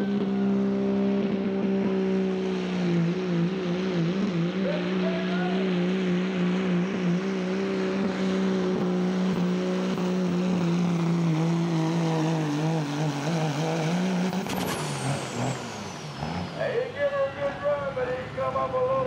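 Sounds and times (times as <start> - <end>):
diesel engine running hard: 0.0 - 19.0.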